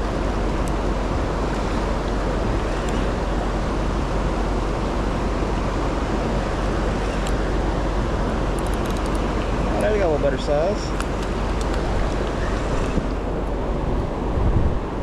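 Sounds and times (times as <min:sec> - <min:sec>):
river rapids roaring: 0:00.0 - 0:15.0.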